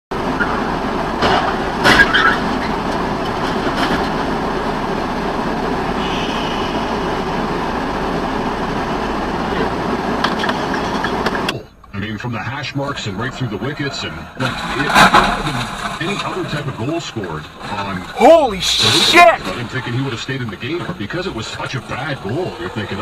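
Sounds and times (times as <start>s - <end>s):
vehicle running rumble: 0.1s - 23.0s.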